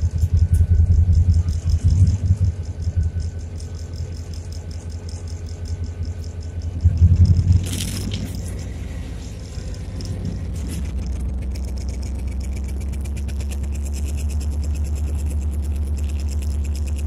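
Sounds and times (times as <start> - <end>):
locomotive diesel engine drone: 0.0 - 17.0.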